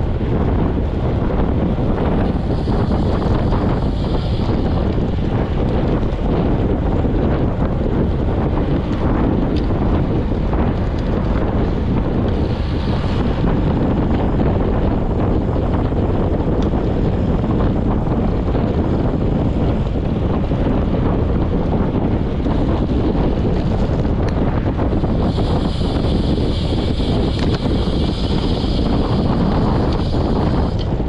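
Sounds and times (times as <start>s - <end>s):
wind noise on microphone: 0.0s - 31.0s.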